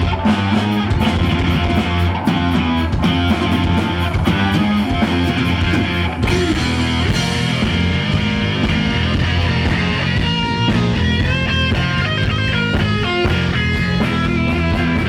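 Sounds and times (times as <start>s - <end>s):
bass: 0.0s - 15.0s
distorted electric guitar: 0.0s - 15.0s
drum beat: 0.0s - 15.0s.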